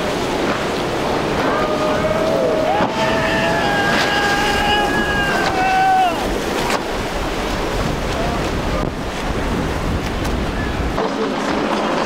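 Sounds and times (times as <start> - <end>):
outboard engines whining: 0.0 - 12.0
wind and water spray: 0.0 - 12.0.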